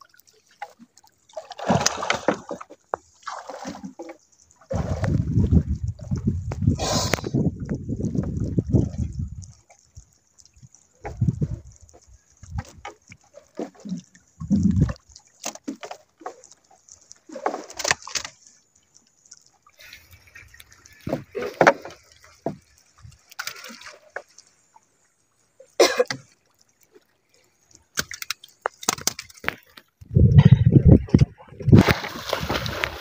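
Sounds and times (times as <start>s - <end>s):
shallow water splashing: 0.0s - 33.0s.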